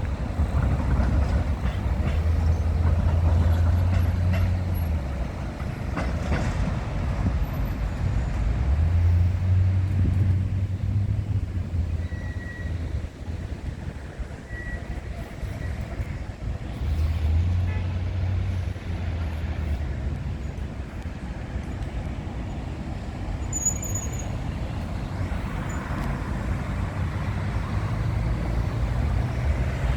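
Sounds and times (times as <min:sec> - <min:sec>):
road traffic: 0:00.0 - 0:29.9
tram hum: 0:00.0 - 0:29.9
wheels clicking and squeaking on rails: 0:00.0 - 0:29.9.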